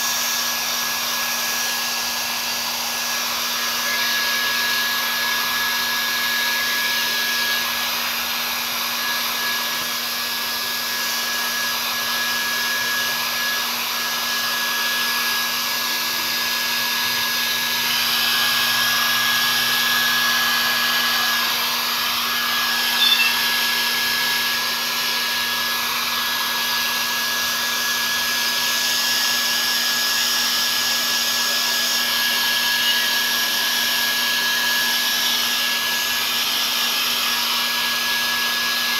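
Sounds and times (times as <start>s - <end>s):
blow dryer running: 0.0s - 38.9s.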